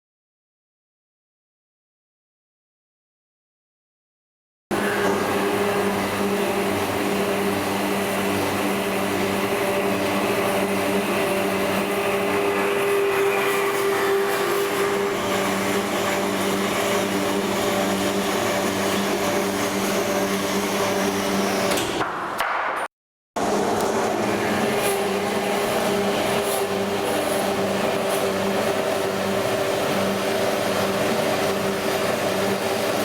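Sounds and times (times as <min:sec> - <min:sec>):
band saw running: 0:04.7 - 0:21.8, 0:23.4 - 0:33.0.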